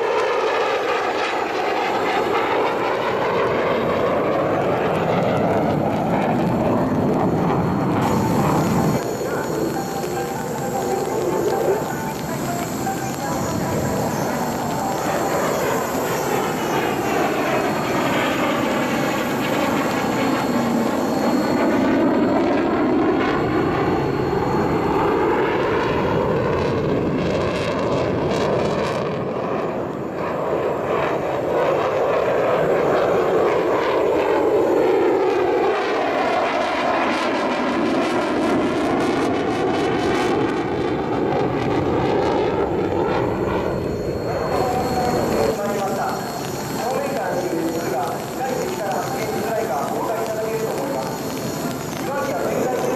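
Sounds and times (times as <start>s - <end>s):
jet engine roaring past: 0.0s - 52.9s.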